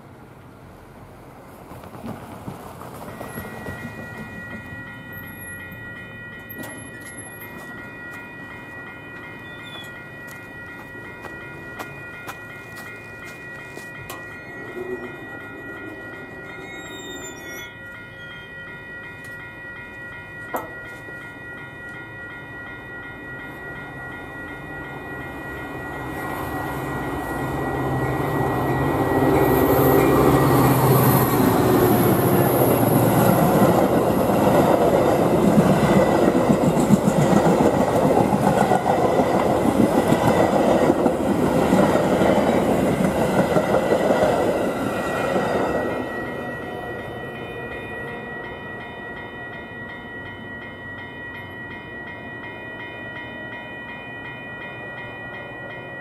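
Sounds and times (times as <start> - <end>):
diesel locomotive engine: 0.0 - 56.0
rumble and clatter of train cars: 0.0 - 56.0
crossing bells ringing: 2.9 - 56.0.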